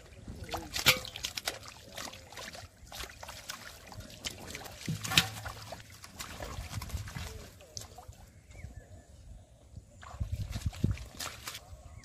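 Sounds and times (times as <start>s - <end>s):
fish splashing and slapping: 0.0s - 8.2s, 10.0s - 11.9s.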